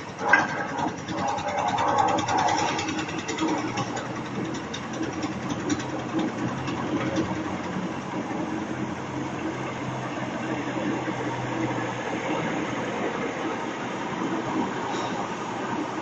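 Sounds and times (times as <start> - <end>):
concrete mixer engine humming: 0.0 - 16.0.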